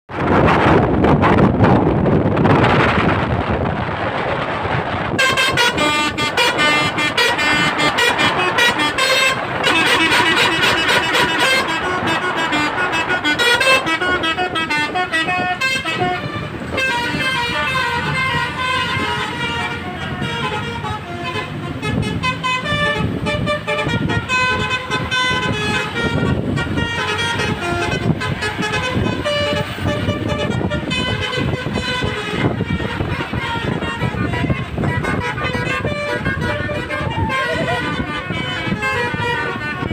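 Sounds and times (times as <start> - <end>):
musical bus horns: 0.1 - 39.9.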